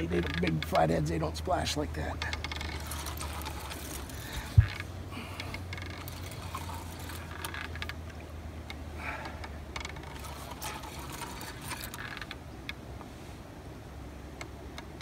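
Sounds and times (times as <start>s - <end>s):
fishing reel clicks and rattles: 0.0s - 8.8s, 9.4s - 12.8s
low hum: 0.0s - 15.0s.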